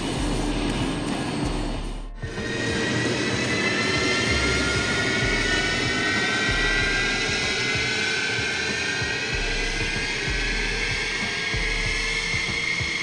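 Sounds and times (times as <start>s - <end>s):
jet engines whining and roaring: 0.0s - 13.0s.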